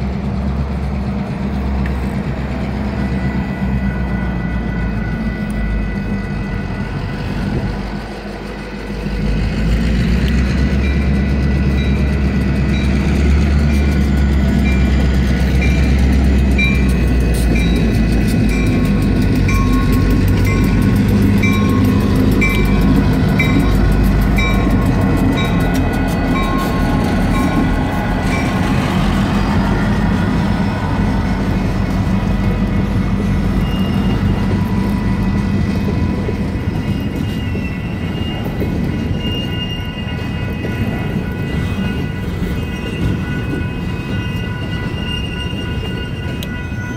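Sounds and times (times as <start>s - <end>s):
diesel locomotives rumbling: 0.0s - 46.9s
freight cars rolling: 0.0s - 46.9s
crossing bells dinging: 0.9s - 46.9s.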